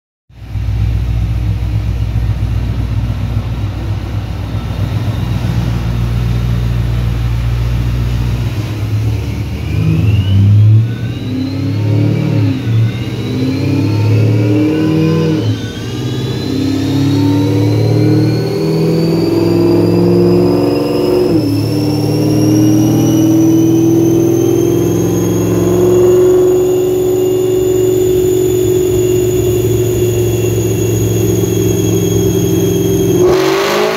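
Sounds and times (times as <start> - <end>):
car engine revving: 0.4 - 33.9
supercharger whine: 0.4 - 33.9.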